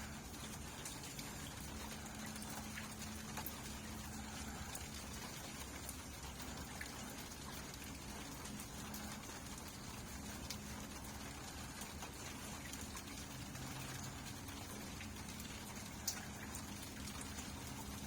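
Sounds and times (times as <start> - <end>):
faint low hum: 0.0 - 18.0
raindrops ticking: 0.0 - 18.0
steady rain hiss: 0.0 - 18.0.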